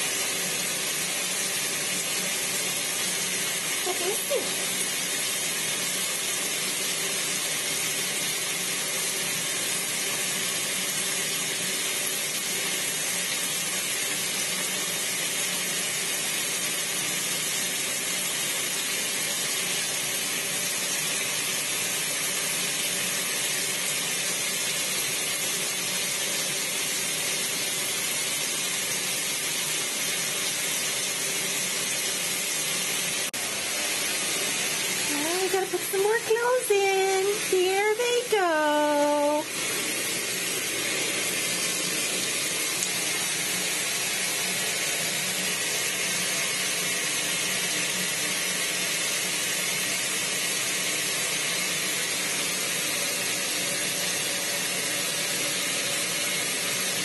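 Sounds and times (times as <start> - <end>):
water pouring into washing machine: 0.0 - 57.0.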